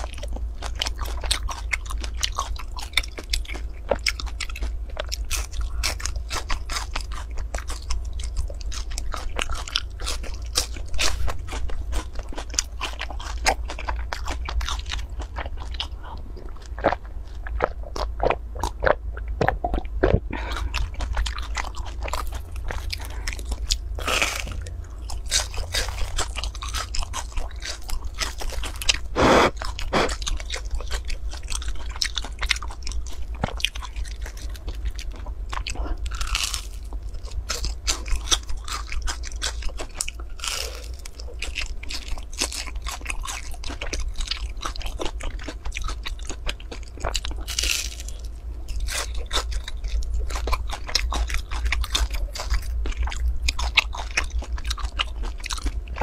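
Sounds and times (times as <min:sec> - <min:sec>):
crisp crunching: 0:00.0 - 0:56.0
low hum: 0:00.0 - 0:56.0
wet chewing clicks: 0:00.0 - 0:56.0.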